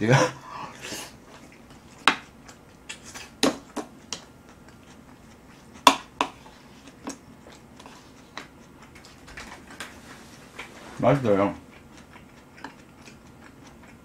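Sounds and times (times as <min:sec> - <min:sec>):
person chewing food: 0:00.6 - 0:14.0.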